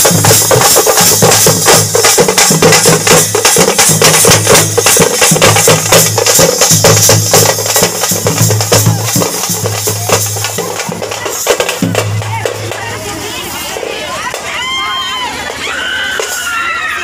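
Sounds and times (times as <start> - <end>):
fast drum-led music: 0.0 - 14.4.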